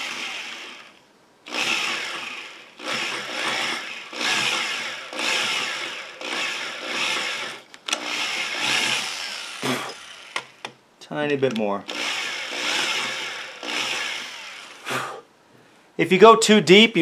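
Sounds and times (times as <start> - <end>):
power drill boring into wood: 0.0 - 10.7, 11.9 - 15.2.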